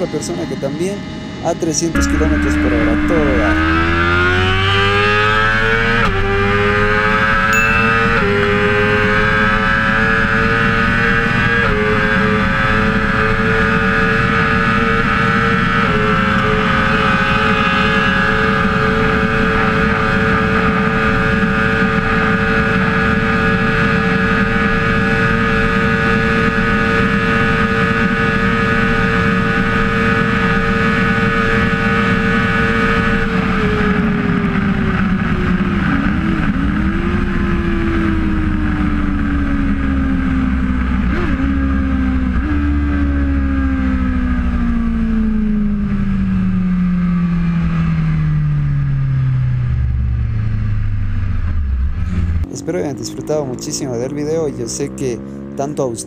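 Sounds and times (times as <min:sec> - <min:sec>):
motorcycle engine at high revs: 0:00.8 - 0:48.2, 0:51.4 - 0:56.0.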